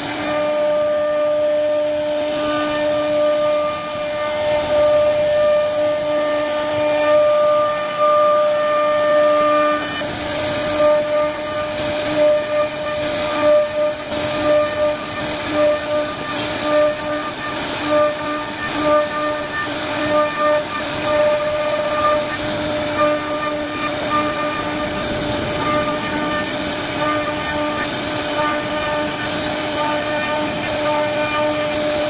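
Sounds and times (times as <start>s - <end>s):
cutter carving wood: 0.0s - 32.0s
router spindle whining: 0.0s - 32.0s.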